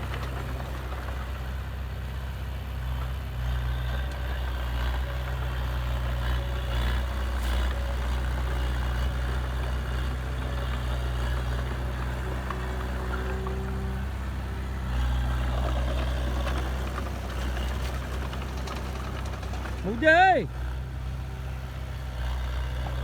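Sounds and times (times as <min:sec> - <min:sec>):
heavy diesel engine droning: 0:00.0 - 0:23.0.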